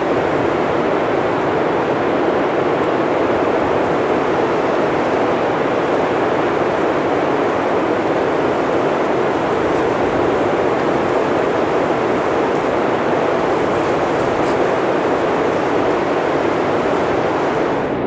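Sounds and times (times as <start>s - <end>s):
blizzard wind blowing: 0.0s - 18.0s.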